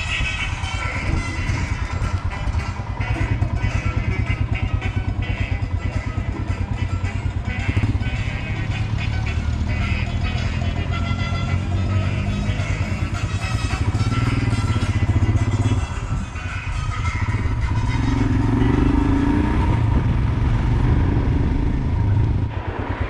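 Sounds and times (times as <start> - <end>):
motorcycle engine riding: 0.0 - 23.0.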